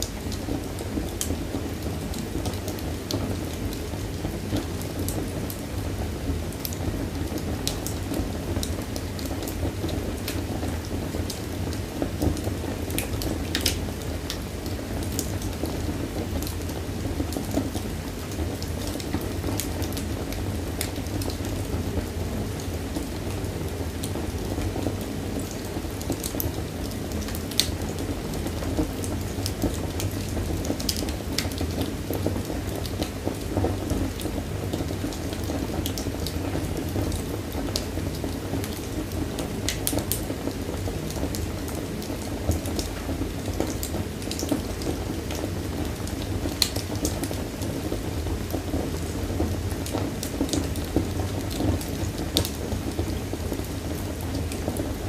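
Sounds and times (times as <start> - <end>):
fire burning: 0.0 - 55.0
fire crackling and popping: 0.0 - 55.0.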